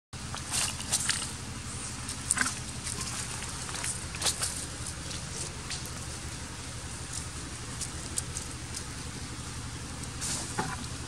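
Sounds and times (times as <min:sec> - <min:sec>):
dry leaves crackling underfoot: 0:00.2 - 0:10.6
steady low rumble: 0:00.2 - 0:11.0.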